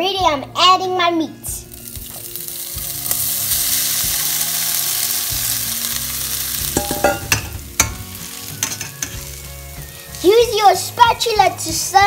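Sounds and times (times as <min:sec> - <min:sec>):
meat sizzling in oil: 0:01.7 - 0:11.6.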